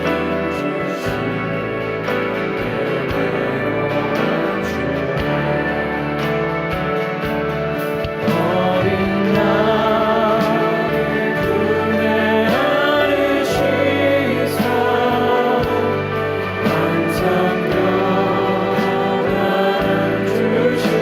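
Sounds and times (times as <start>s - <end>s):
instrumental accompaniment: 0.0s - 21.0s
people singing worship song: 0.0s - 21.0s.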